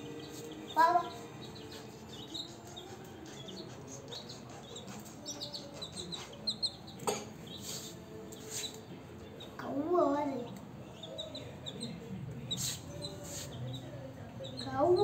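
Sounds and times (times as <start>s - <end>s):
chicks peeping: 0.0s - 9.6s, 10.5s - 15.0s.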